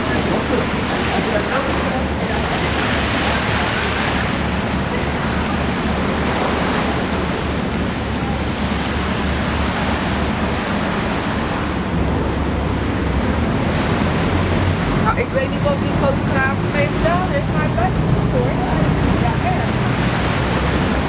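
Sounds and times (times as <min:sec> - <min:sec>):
sea water rushing: 0:00.0 - 0:21.0
wind buffeting microphone: 0:00.0 - 0:21.0.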